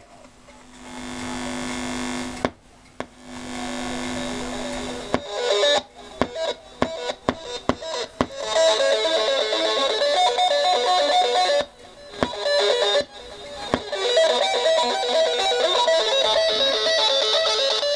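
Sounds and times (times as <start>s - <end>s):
electric guitar music: 3.2s - 17.9s.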